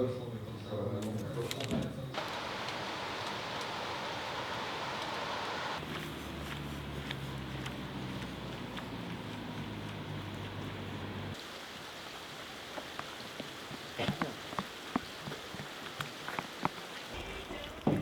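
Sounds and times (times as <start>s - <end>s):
rain falling steadily: 2.1s - 5.9s, 6.6s - 18.0s.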